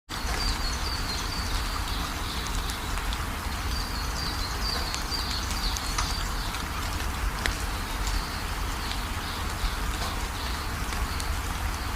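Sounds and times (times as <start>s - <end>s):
steady rain falling: 0.1s - 11.9s.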